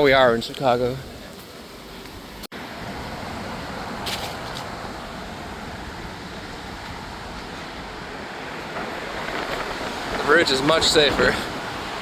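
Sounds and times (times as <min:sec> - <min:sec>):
road traffic hiss: 0:00.0 - 0:12.0.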